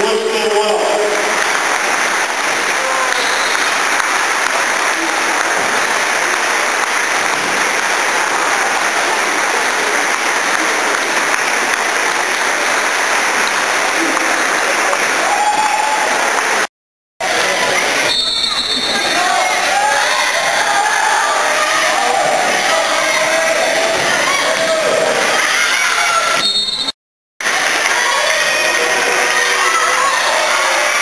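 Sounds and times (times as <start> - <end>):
crowd applauding: 0.6 - 26.2, 27.4 - 31.0.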